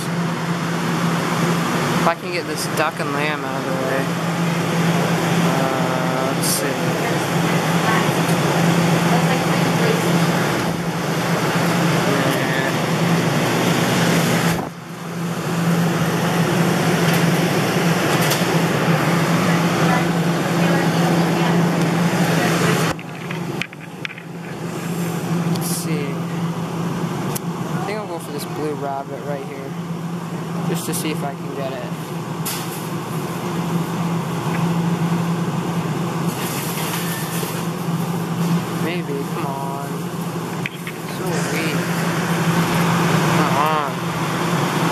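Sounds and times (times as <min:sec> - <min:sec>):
loud mechanical hum with hiss: 0:00.0 - 0:44.9.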